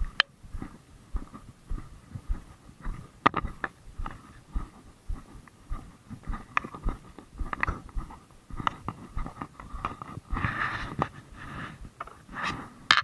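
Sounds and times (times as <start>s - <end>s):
rustle: 0.0s - 13.0s.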